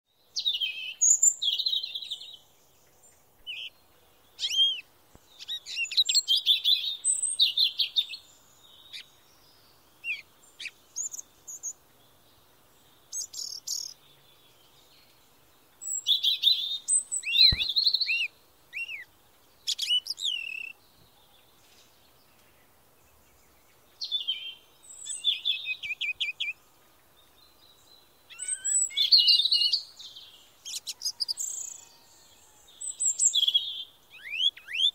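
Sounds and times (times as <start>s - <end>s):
songbirds chirping and whistling: 0.1s - 34.9s.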